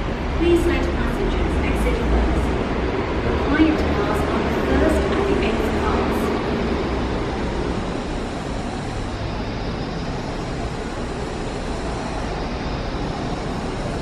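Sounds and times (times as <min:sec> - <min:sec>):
road traffic rumble and hiss: 0:00.0 - 0:14.0
station ambience: 0:00.0 - 0:14.0.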